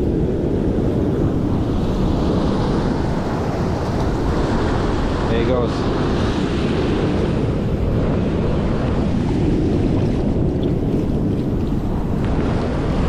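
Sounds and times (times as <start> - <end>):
ocean surf washing over rocks: 0.0 - 13.0
wind buffeting microphone: 0.0 - 13.0.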